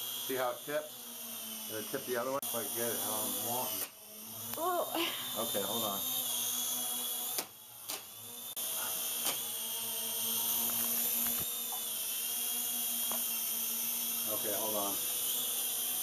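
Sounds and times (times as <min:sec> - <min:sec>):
toy helicopter motor whine: 0:00.0 - 0:16.0.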